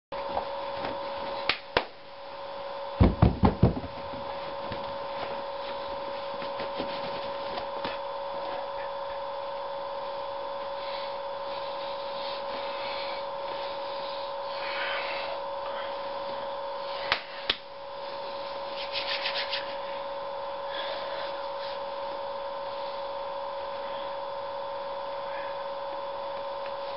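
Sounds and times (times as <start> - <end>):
electrical hum: 0.1 - 26.9.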